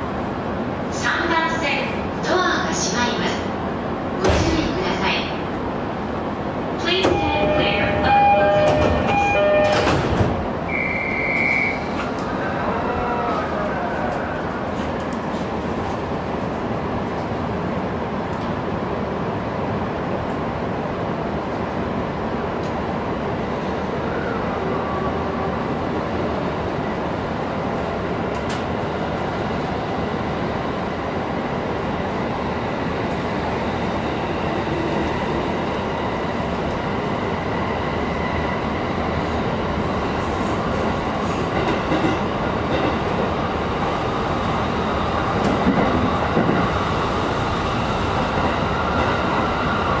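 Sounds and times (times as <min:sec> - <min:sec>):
train wheels rumbling on rails: 0:04.0 - 0:10.7, 0:11.3 - 0:50.0.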